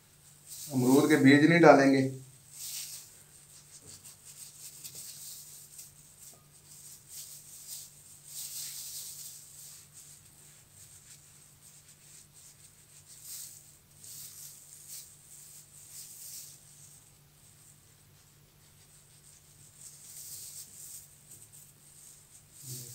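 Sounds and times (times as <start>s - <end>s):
plastic gloves rustling: 0.0s - 22.9s.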